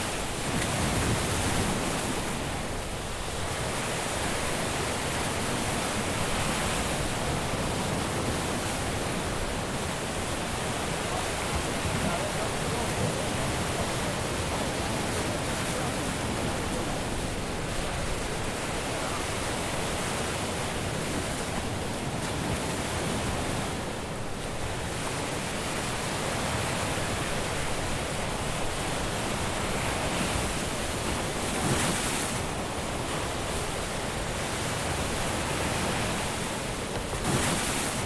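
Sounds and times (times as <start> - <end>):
surf washing onto beach: 0.0 - 38.0.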